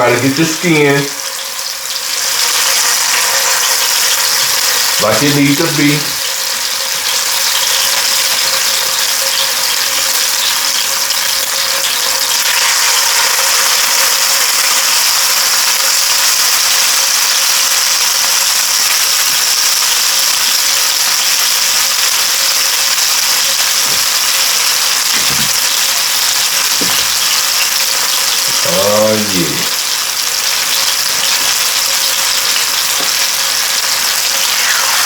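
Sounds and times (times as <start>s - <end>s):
chicken sizzling in oil: 0.0s - 35.0s.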